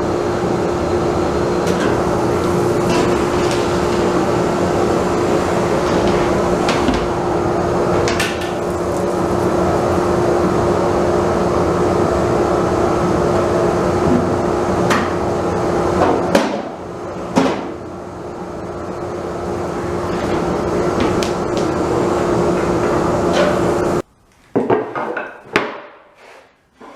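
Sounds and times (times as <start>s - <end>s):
machine hum: 0.0s - 24.6s.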